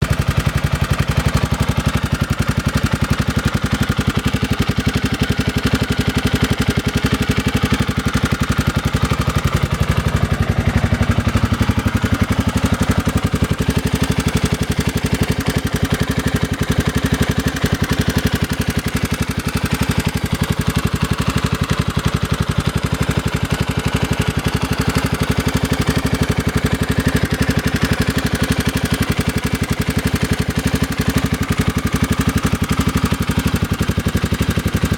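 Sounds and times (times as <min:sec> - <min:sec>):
engine idling with rapid pulsing: 0:00.0 - 0:34.9.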